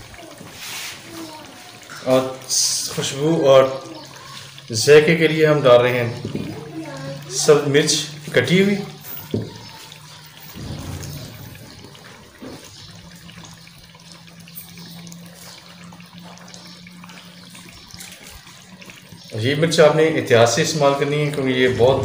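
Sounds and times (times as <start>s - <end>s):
gravy bubbling in a pot: 0.0s - 22.0s.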